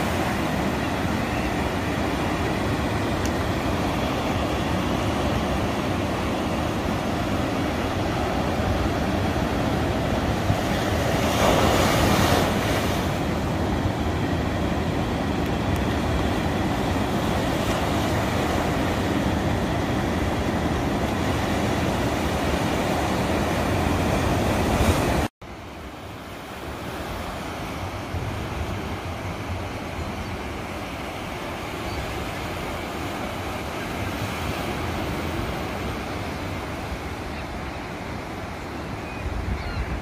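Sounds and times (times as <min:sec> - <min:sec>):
ocean waves breaking: 0:00.0 - 0:40.0.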